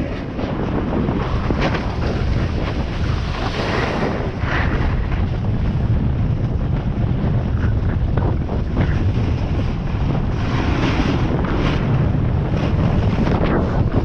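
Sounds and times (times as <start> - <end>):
snowboard sliding over snow: 0.0 - 14.0
wind buffeting microphone: 0.0 - 14.0.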